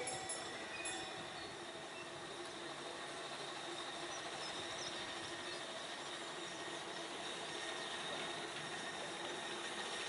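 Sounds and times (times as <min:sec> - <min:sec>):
distant steam locomotive hissing: 0:00.0 - 0:10.0.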